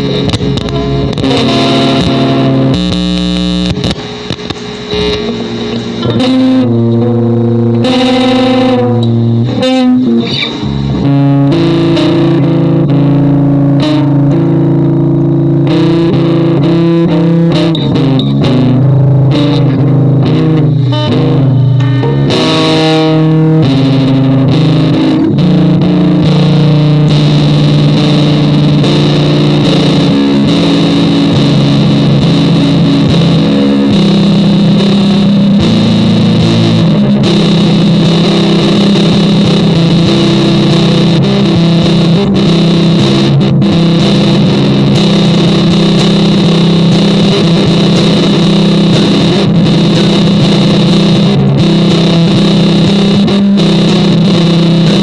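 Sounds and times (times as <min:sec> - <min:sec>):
distorted electric guitar drone: 0:00.0 - 0:55.0.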